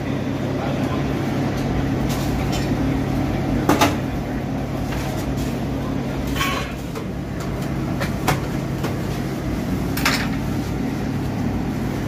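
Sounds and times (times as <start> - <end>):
low hum of kitchen equipment: 0.0 - 12.0.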